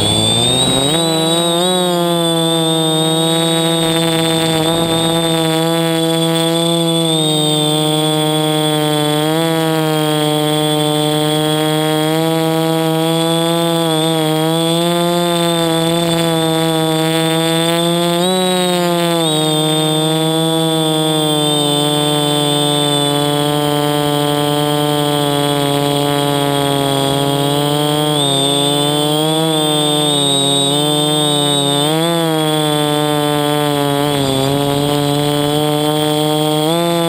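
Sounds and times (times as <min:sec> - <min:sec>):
drone propellers buzzing: 0:00.0 - 0:37.0.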